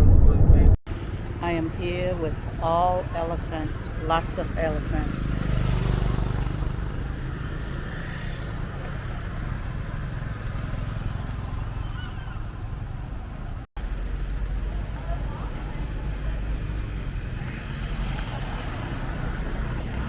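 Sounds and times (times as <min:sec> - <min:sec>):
motor vehicle rumbling: 0:00.0 - 0:20.0.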